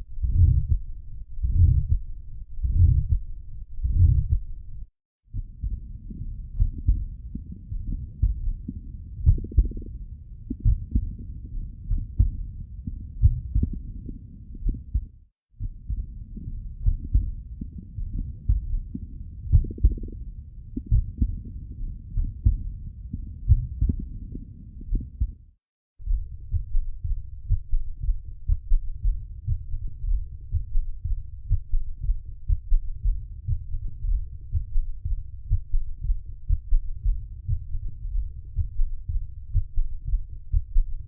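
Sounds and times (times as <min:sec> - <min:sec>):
heartbeat through stethoscope: 0:00.0 - 0:41.0.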